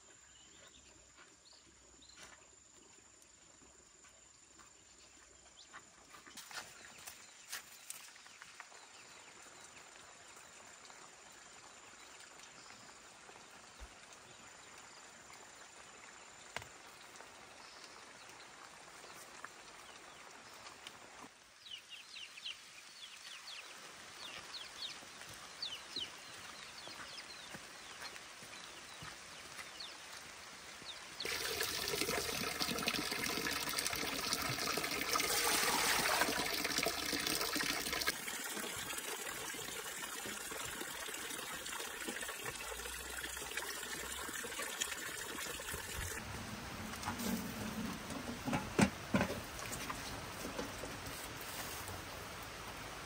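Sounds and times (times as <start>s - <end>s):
water trickling and pouring: 6.7s - 21.1s, 22.9s - 51.9s.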